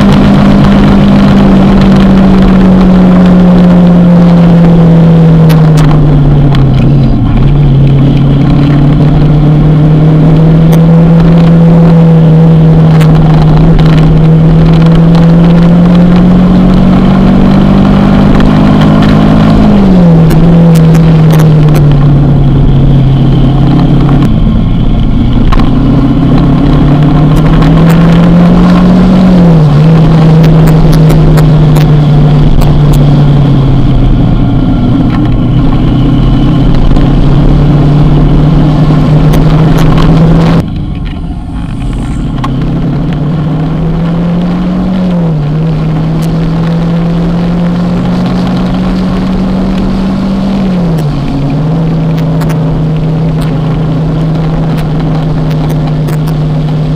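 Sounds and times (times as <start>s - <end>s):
motorcycle engine upshifting: 0.0s - 56.9s.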